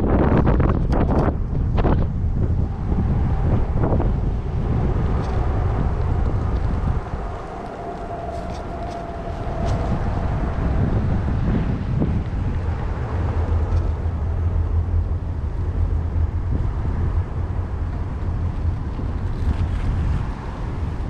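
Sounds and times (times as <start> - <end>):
faint steady whine: 0.0 - 21.0
wind buffeting microphone: 0.0 - 21.0.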